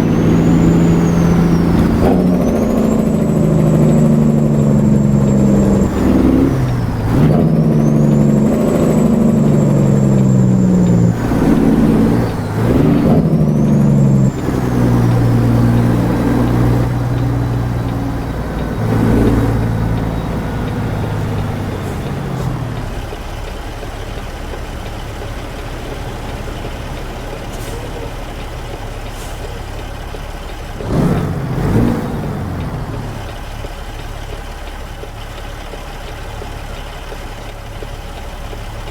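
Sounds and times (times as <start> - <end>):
diesel truck accelerating through gears: 0.0 - 38.9.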